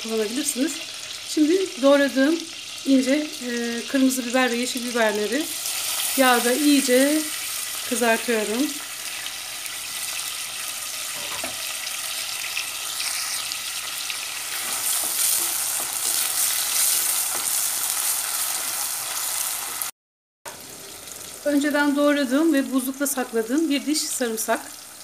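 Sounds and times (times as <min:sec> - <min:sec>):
peppers sizzling in oil: 0:00.0 - 0:19.9, 0:20.5 - 0:25.0.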